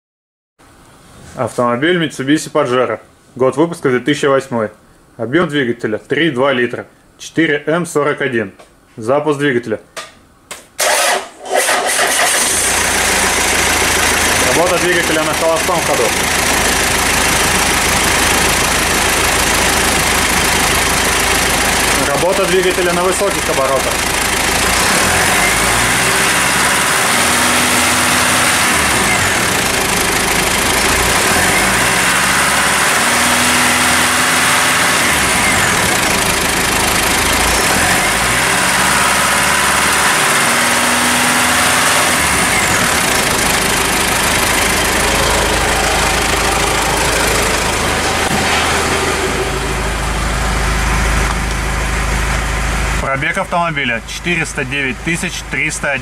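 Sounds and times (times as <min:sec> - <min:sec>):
diesel engine revving and idling: 0:10.8 - 0:56.0.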